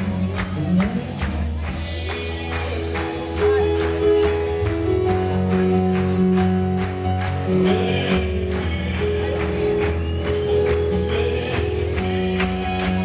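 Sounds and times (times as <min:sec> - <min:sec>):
percussion beat: 0:00.0 - 0:13.0
stage piano chords: 0:00.0 - 0:13.0.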